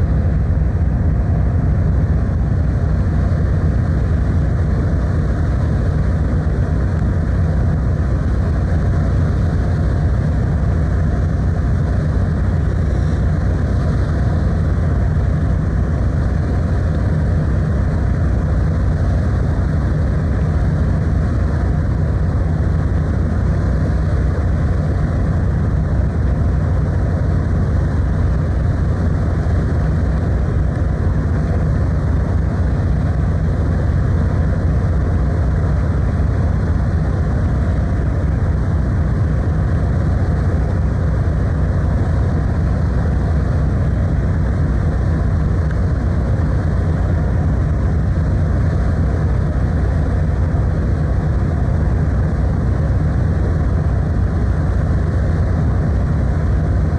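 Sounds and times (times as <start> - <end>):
ferry engine drone: 0.0 - 56.9
wind and water rushing: 0.0 - 56.9.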